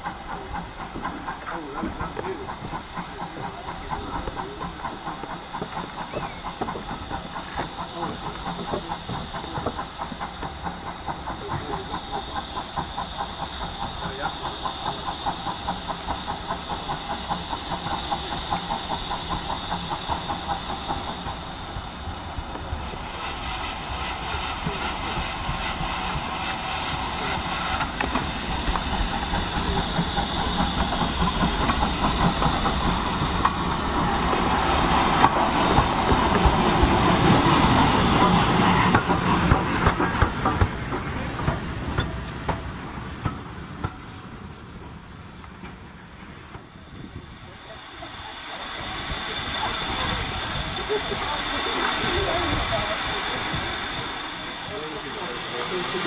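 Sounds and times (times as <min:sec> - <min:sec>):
steam hissing: 0:00.0 - 0:56.0
steam locomotive chuffing: 0:00.0 - 0:56.0.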